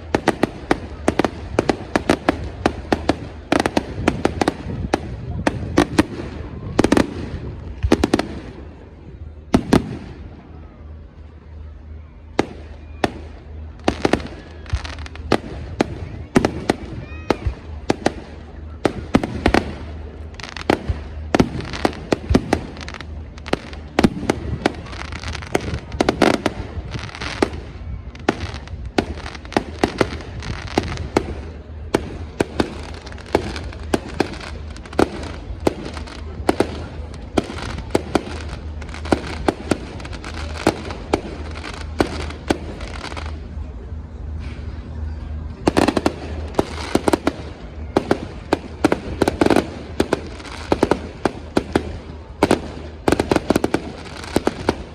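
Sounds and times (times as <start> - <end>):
continuous rumble: 0.0 - 54.9
fireworks bangs and crackles: 0.0 - 54.9.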